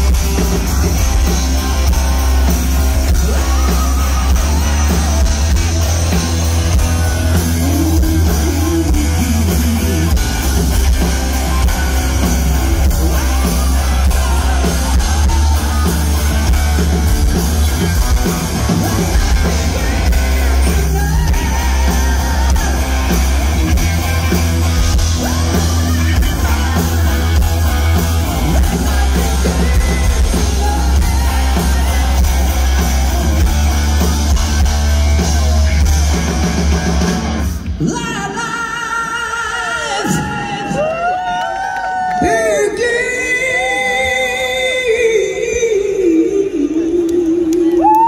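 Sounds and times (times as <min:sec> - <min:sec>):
live rock band playing: 0:00.0 - 0:41.2
crowd cheering: 0:00.0 - 0:45.0, 0:46.8 - 0:48.0.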